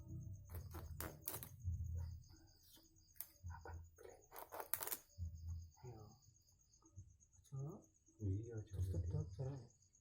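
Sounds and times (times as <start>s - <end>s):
pulsing insect trill: 0.0s - 10.0s.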